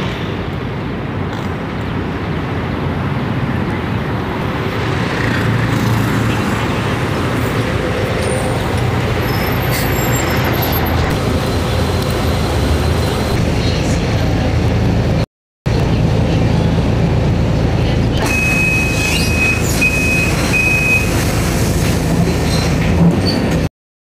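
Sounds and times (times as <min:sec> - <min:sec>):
bus engine running: 0:00.0 - 0:23.7
street traffic noise: 0:00.0 - 0:23.7.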